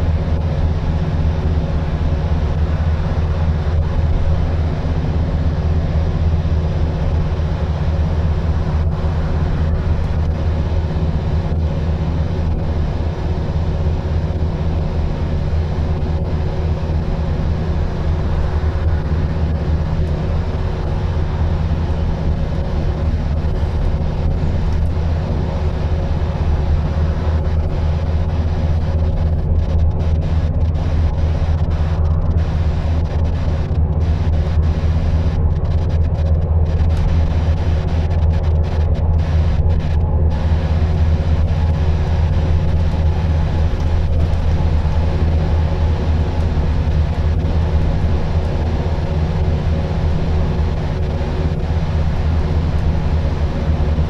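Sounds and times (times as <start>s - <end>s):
bus diesel engine droning: 0.0s - 54.0s
road and tyre noise: 0.0s - 54.0s.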